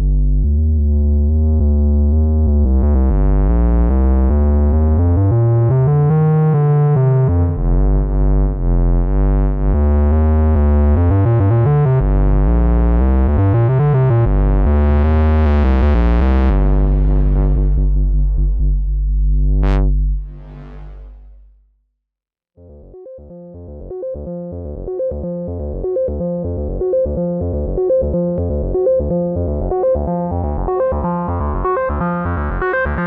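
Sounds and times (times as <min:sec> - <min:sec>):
synthesizer bass notes: 0:00.0 - 0:21.8, 0:22.6 - 0:33.0.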